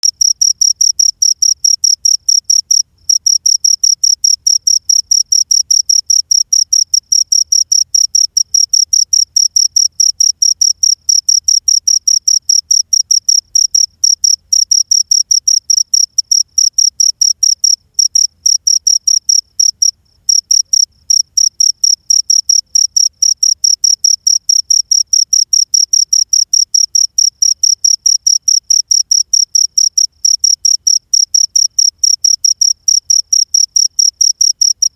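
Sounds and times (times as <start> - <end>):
cricket chirping: 0.0 - 34.9.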